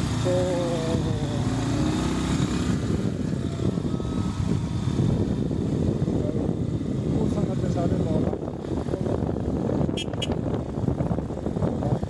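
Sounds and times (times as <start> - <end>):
vehicle rumbling on rough road: 0.0 - 12.0
wind buffeting microphone: 0.1 - 12.0.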